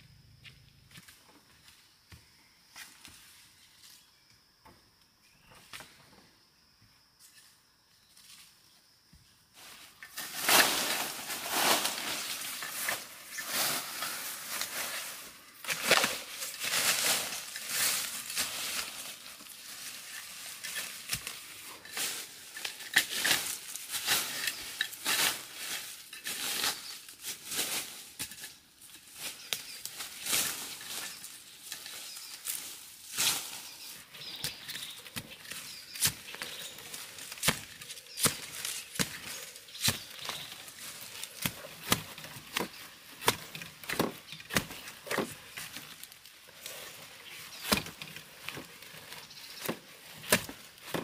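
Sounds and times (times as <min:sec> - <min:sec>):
leaves and branches rustling: 0:09.5 - 0:51.0
footsteps crunching on dry leaves: 0:09.6 - 0:51.0.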